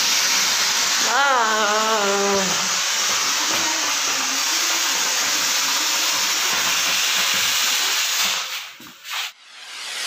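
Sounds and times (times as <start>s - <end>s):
firework rocket hissing: 0.0s - 10.0s.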